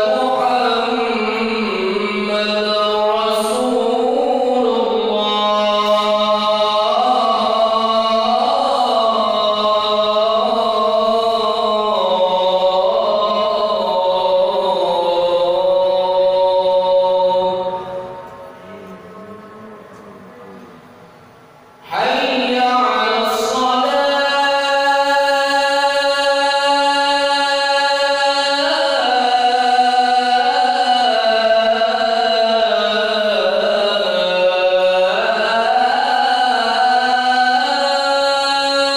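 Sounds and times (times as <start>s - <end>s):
man chanting call to prayer: 0.0s - 21.0s, 21.8s - 38.9s.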